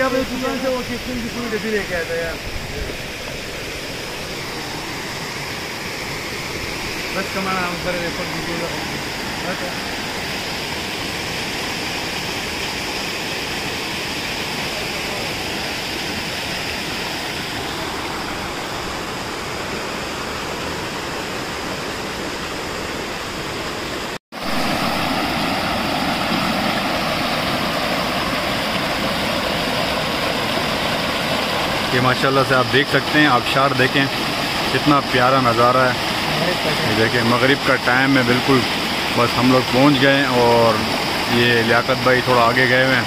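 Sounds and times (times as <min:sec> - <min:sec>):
small waterfall cascading: 0:00.0 - 0:43.0
stream rushing over stones: 0:00.0 - 0:43.0.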